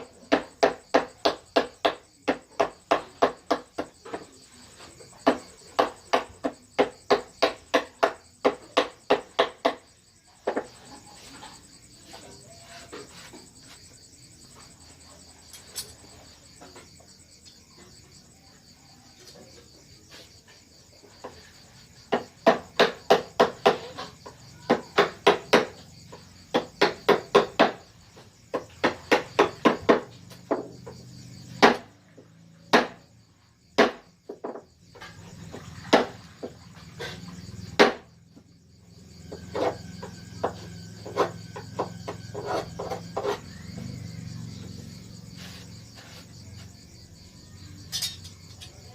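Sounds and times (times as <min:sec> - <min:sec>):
crickets chirring: 0:00.0 - 0:48.9.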